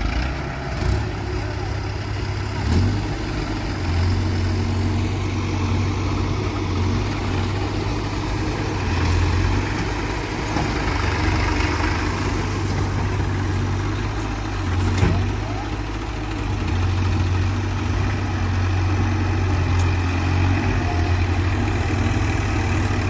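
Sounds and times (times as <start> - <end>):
backhoe diesel engine running: 0.0 - 23.0.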